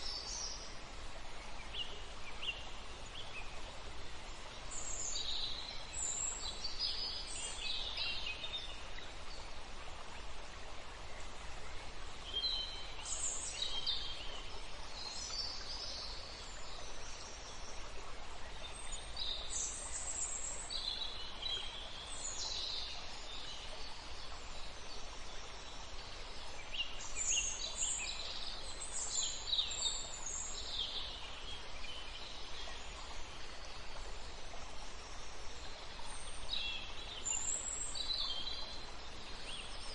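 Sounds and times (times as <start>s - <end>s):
songbirds singing: 0.0s - 10.2s, 10.9s - 39.9s
outdoor background hiss: 0.0s - 39.9s.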